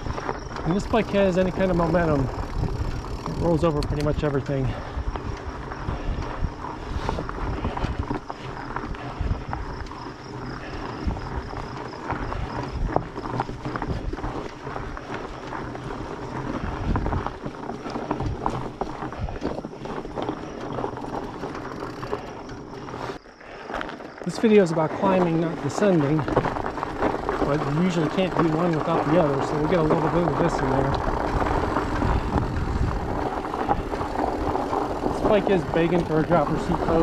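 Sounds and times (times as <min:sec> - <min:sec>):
wind noise on microphone: 0:00.0 - 0:23.2, 0:29.4 - 0:37.0
bike knocking and rattling: 0:00.0 - 0:37.0
bike tyres rolling on dirt: 0:00.0 - 0:37.0.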